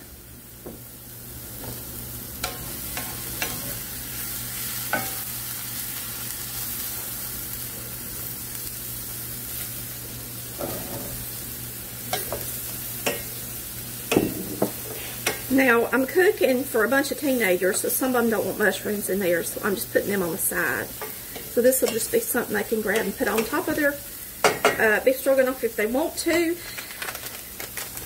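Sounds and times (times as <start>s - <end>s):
steady sizzle in pans: 0.0s - 28.0s.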